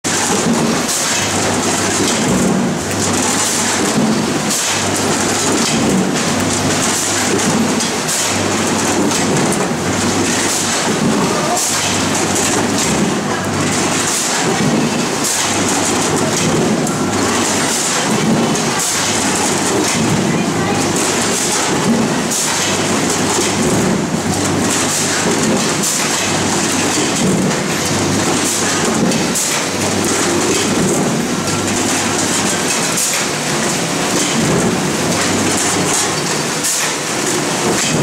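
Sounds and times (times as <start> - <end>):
machine noise: 0.0 - 38.0
potatoes clattering over steel chutes: 0.1 - 38.0.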